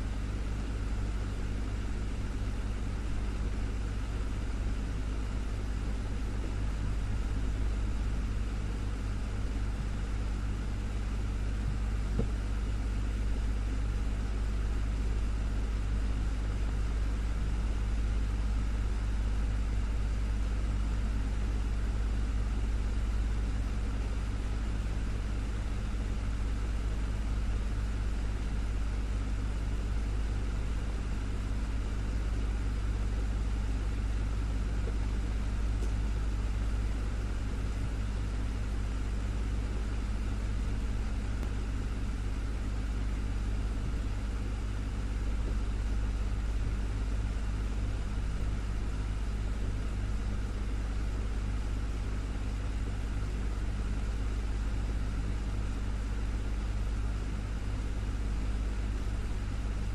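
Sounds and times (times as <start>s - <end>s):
desktop fan whirring: 0.0s - 59.9s.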